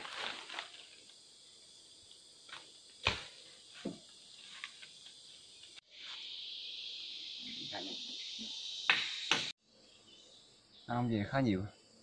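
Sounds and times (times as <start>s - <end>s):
high-pitched insect hiss: 0.0s - 12.0s.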